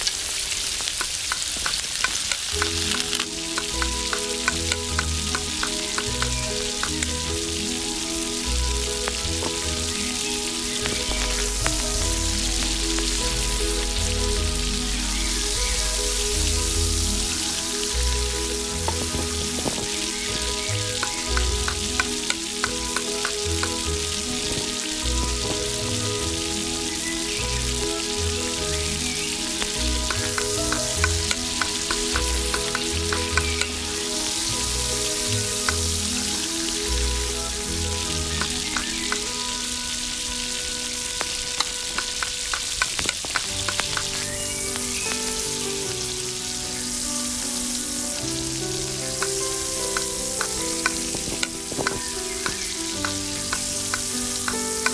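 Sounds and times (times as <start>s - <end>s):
vegetables sizzling in oil: 0.0s - 54.9s.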